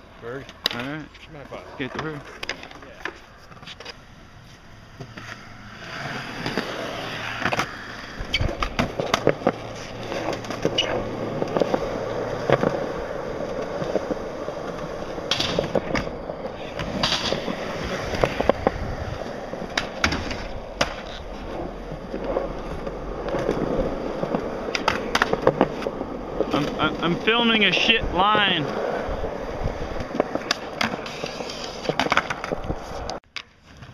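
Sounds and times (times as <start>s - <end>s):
skateboard wheels rolling on concrete: 0.0s - 33.9s
skateboard clacking on ground: 0.4s - 4.1s, 4.9s - 33.9s.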